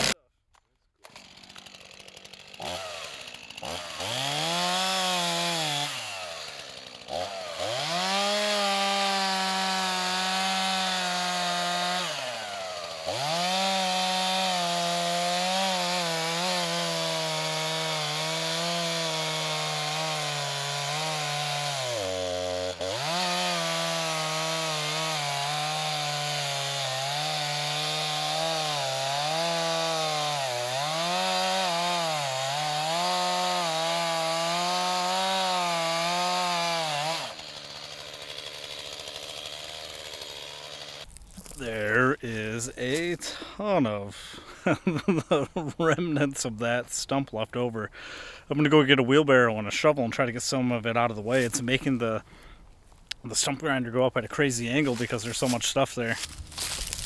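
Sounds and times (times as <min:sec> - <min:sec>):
cutter wheel grinding stump: 0:00.0 - 0:00.2, 0:01.0 - 0:57.0.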